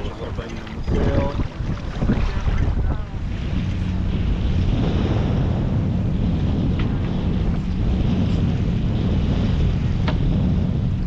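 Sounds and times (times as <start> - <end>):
water washing along hull: 0.0 - 11.0
wind buffeting microphone: 0.0 - 11.0.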